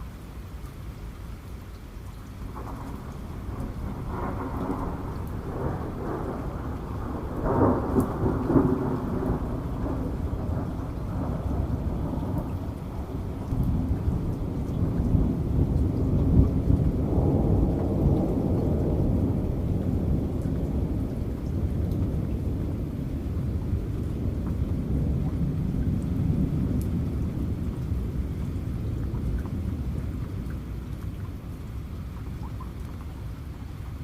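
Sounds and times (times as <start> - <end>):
steady rain: 0.0 - 34.0
rolling thunder: 2.5 - 31.3.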